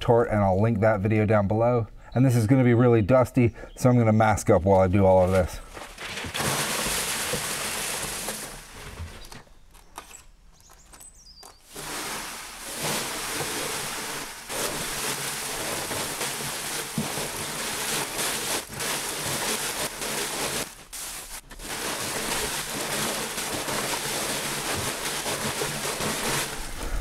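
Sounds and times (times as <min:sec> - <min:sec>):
charcoal tumbling and rattling: 0:04.9 - 0:27.0.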